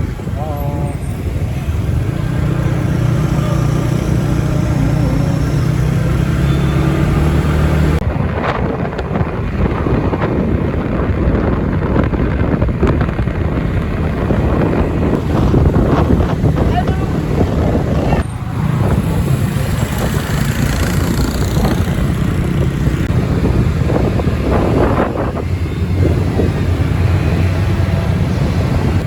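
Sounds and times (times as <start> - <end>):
vehicle engine running: 0.0 - 8.2, 12.4 - 29.0.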